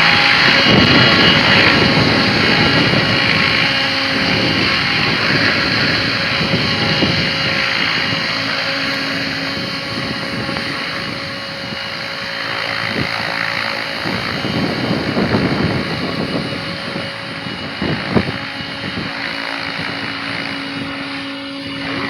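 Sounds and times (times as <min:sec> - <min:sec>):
helicopter rotor and motor drone: 0:00.0 - 0:22.0
wind buffeting microphone: 0:00.0 - 0:22.0.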